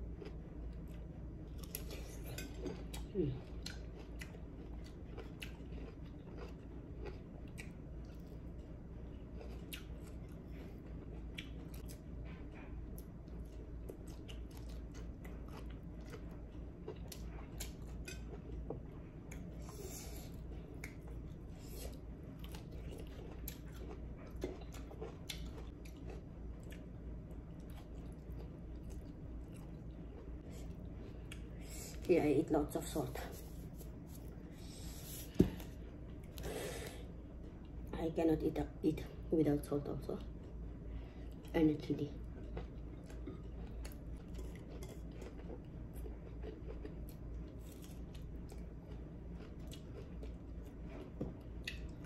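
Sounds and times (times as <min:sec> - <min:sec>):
person chewing food: 0:00.0 - 0:32.1, 0:33.3 - 0:37.9, 0:42.2 - 0:52.0
steady low hum: 0:00.0 - 0:52.0.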